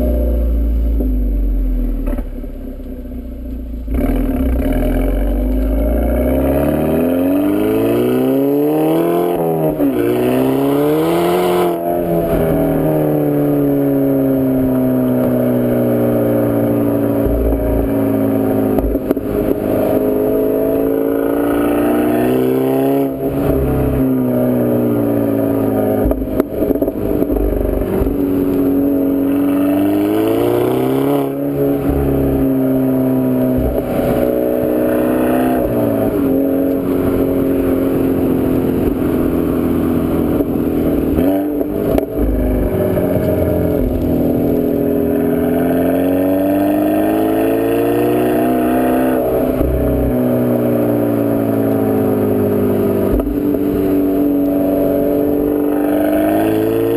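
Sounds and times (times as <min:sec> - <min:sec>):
car engine revving while driving: 0:03.8 - 0:56.9.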